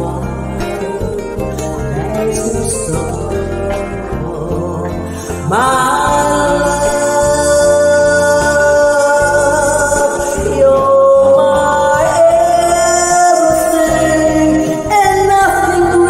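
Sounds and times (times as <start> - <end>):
backing track with pulsing bass: 0.0 - 16.0.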